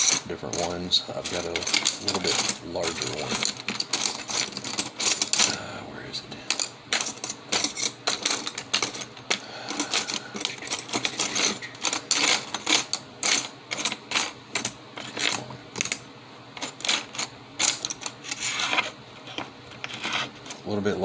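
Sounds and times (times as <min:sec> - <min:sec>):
metal tools clinking: 0:00.0 - 0:05.6, 0:06.5 - 0:16.0, 0:16.6 - 0:21.0.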